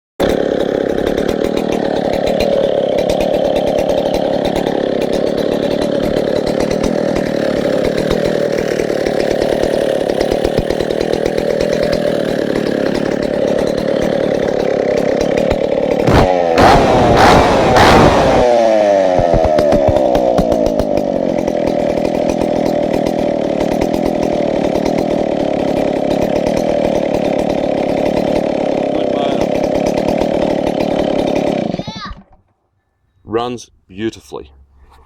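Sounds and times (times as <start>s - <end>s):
chainsaw engine idling and revving: 0.2s - 32.6s.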